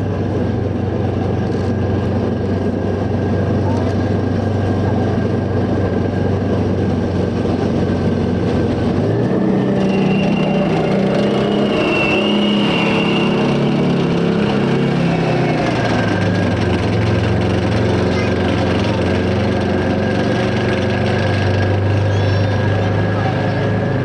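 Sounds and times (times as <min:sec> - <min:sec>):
high whine: 0:00.0 - 0:24.0
tank diesel engine revving: 0:00.0 - 0:24.0.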